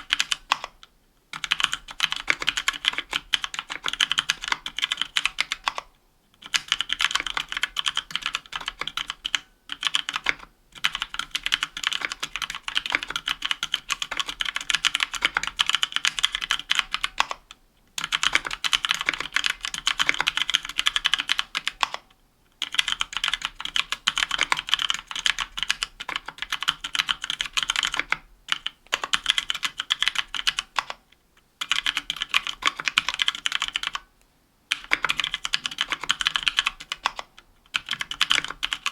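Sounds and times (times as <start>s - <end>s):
mechanical keyboard typing: 0.0s - 31.0s, 31.6s - 34.1s, 34.7s - 38.9s.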